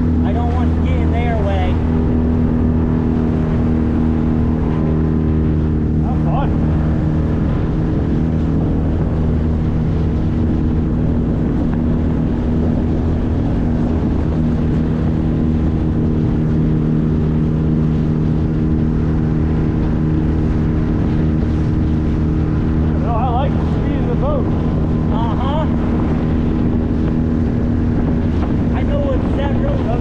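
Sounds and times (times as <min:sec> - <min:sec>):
outboard motor running: 0:00.0 - 0:30.0
wind: 0:00.0 - 0:30.0.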